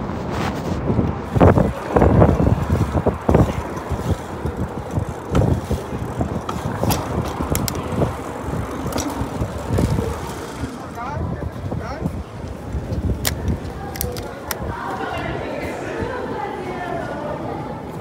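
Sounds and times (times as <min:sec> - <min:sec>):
traffic noise: 0:00.0 - 0:18.0
wind buffeting microphone: 0:00.0 - 0:18.0.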